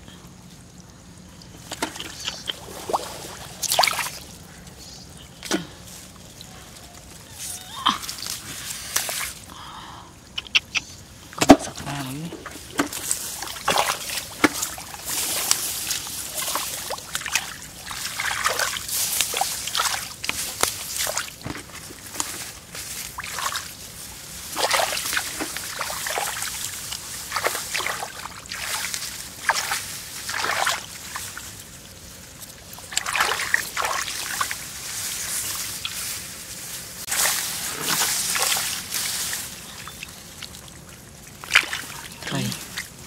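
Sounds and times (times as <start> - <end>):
water trickling: 0.0 - 10.4, 11.0 - 43.0
water sloshing and splashing: 0.4 - 9.5, 11.1 - 43.0.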